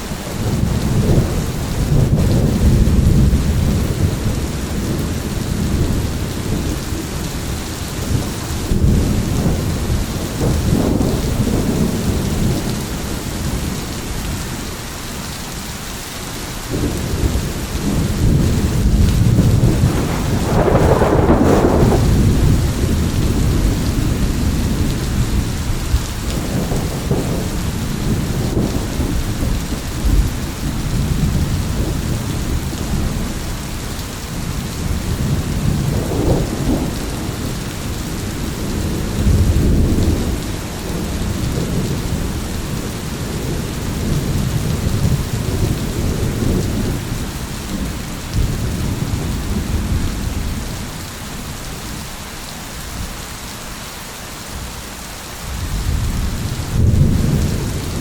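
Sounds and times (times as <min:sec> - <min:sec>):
rolling thunder: 0:00.0 - 0:14.7, 0:16.7 - 0:52.1, 0:55.5 - 0:58.0
heavy rain: 0:00.0 - 0:58.0.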